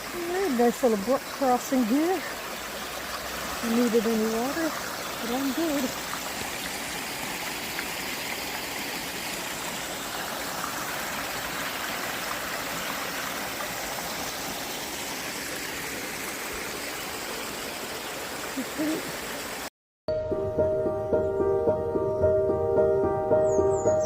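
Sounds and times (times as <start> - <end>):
brook flowing: 0.0 - 19.7.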